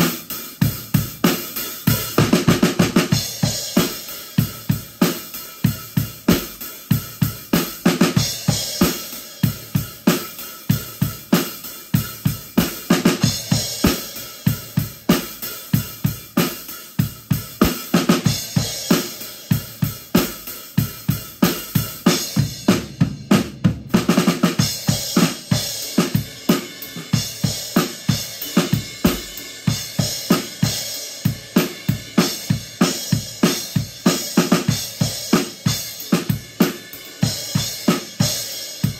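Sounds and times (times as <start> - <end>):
drum kit groove: 0.0 - 38.9.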